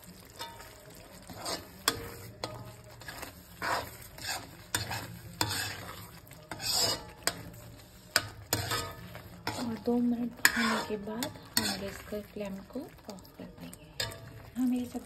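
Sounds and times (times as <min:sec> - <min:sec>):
gravy simmering: 0:00.0 - 0:15.0
spoon scraping metal pan: 0:00.3 - 0:15.0.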